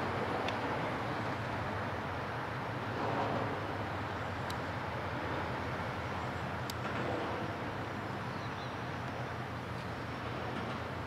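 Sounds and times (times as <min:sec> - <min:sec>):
ship diesel engine rumble: 0:00.0 - 0:11.0.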